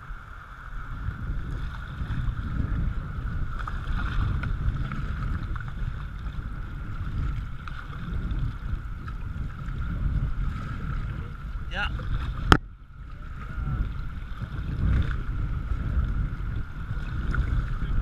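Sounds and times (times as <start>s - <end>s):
paddle strokes splashing: 0.0s - 18.0s
river water rushing against kayak: 0.0s - 18.0s
wind rumble on microphone: 0.0s - 18.0s.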